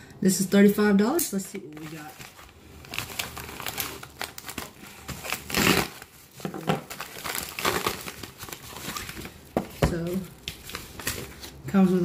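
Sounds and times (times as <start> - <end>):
packaging crinkling and rustling: 1.2 - 12.0.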